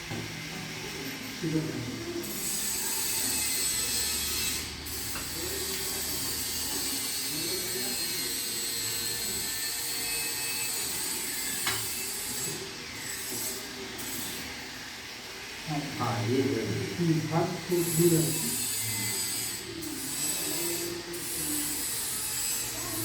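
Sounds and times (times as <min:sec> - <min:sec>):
small electric motor whirring: 0:00.3 - 0:23.0.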